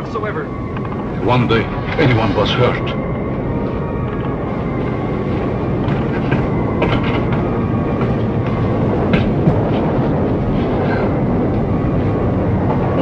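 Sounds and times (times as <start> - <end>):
loud steady rumble: 0.0 - 13.0.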